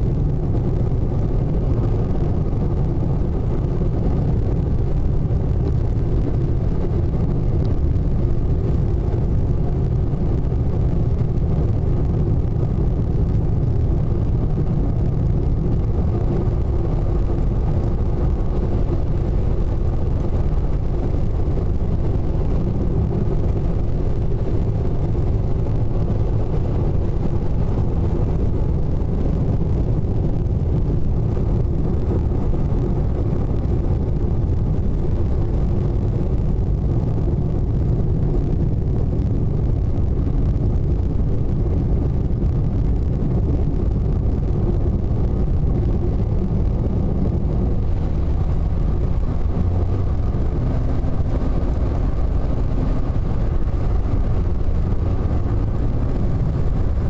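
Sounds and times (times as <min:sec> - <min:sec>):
car interior rumble: 0:00.0 - 0:57.0.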